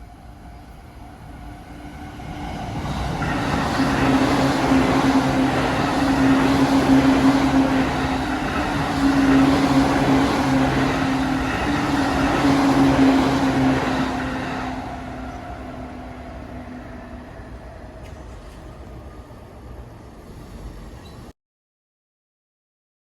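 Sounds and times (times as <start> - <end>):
electric train running past: 0.0 - 21.3.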